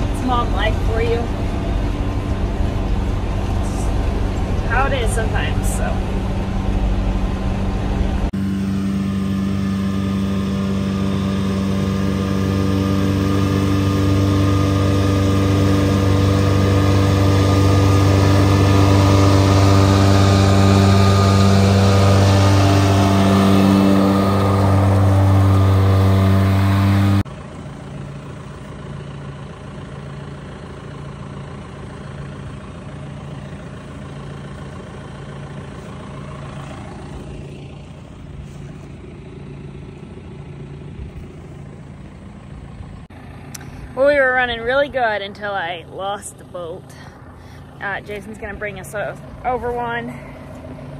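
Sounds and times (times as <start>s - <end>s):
tractor engine drone: 0.0s - 50.9s.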